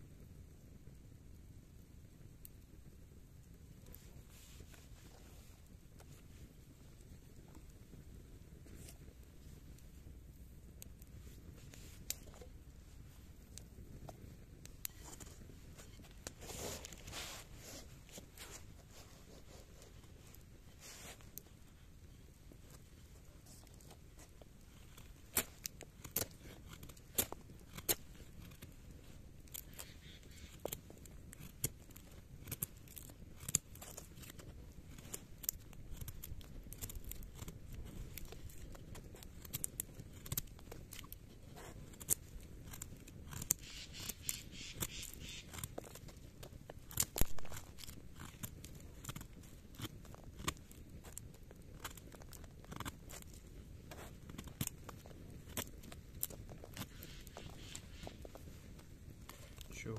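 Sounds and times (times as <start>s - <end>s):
knife shaving wooden stick: 3.8s - 59.9s.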